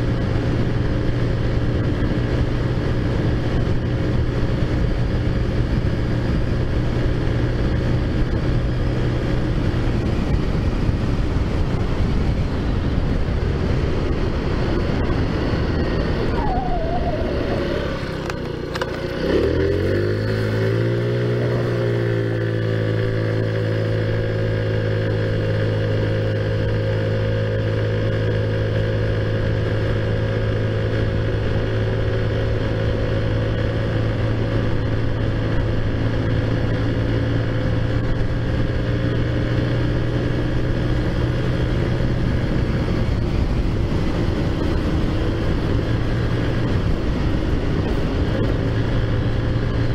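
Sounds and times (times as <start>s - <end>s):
scooter engine running: 0.0s - 49.9s
wind rushing over microphone: 0.0s - 49.9s.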